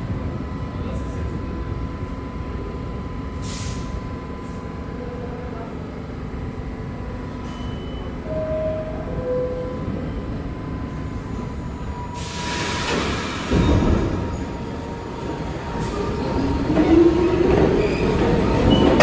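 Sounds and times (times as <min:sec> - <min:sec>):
subway train motors humming: 0:00.0 - 0:19.0.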